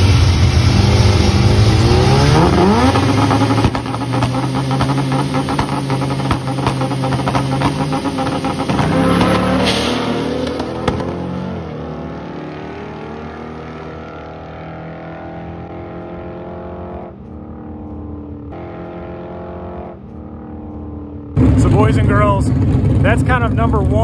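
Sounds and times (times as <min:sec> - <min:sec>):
car engine at full throttle: 0:00.0 - 0:24.0.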